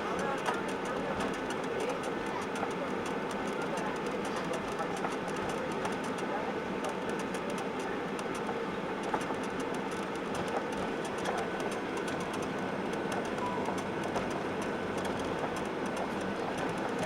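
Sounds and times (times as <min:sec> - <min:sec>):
airplane cabin hum: 0:00.0 - 0:17.0
small clicks and rattles: 0:00.1 - 0:17.0.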